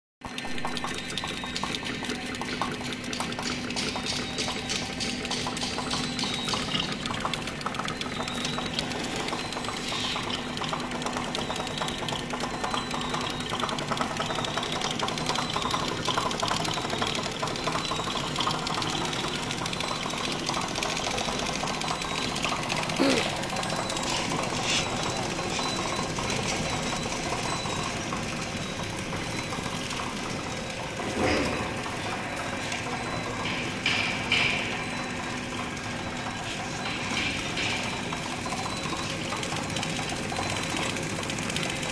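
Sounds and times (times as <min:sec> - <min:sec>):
packing machine clattering: 0:00.2 - 0:41.9.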